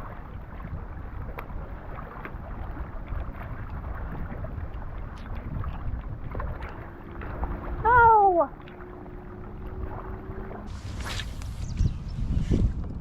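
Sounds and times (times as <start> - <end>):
water sounds: 0.0 - 13.0
wind buffeting microphone: 0.0 - 13.0.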